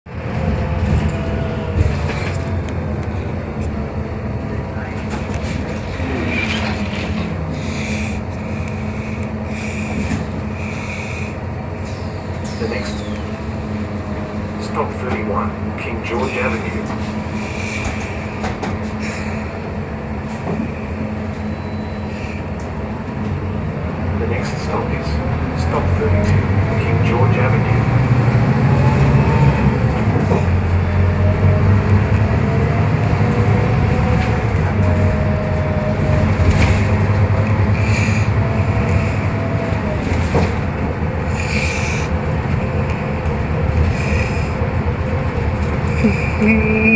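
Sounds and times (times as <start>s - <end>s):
bus engine hum and rumble: 0.0s - 46.9s.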